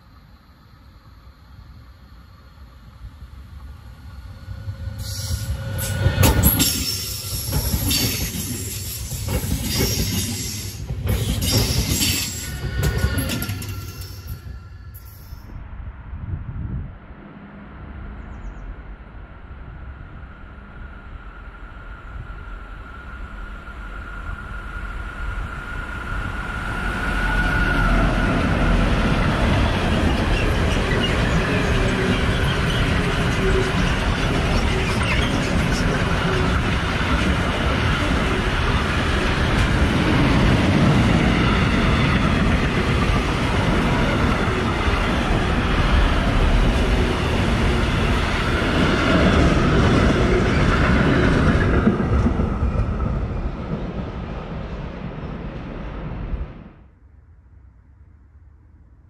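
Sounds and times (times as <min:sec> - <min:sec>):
train passing close by: 0:00.0 - 0:57.3.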